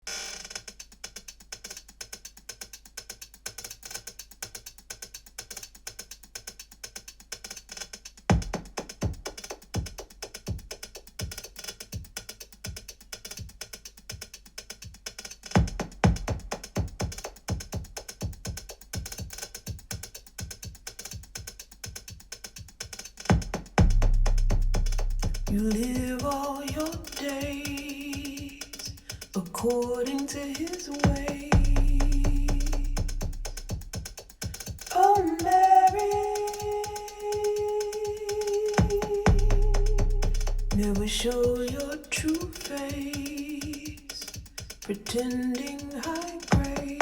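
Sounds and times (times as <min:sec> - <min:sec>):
fast ticking beat: 0:00.0 - 0:47.0.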